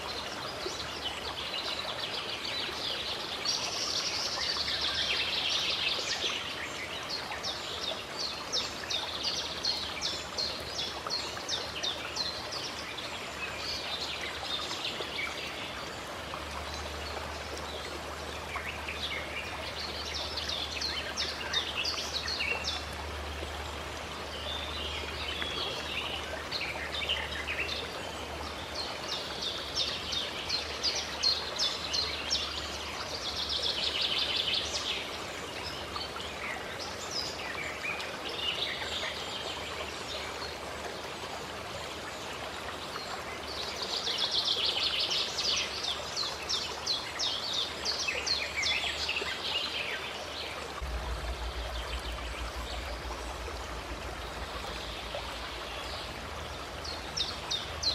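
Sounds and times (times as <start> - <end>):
songbirds chirping: 0.0 - 57.9
stream water running: 0.0 - 57.9.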